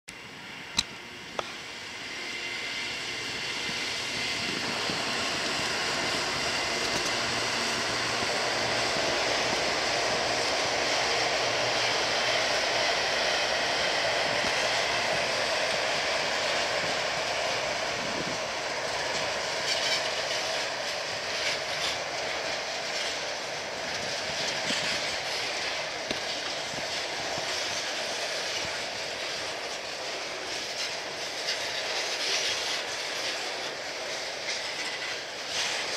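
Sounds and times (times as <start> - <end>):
train wheels on rails: 0.1 - 35.9
train clattering: 3.1 - 35.9.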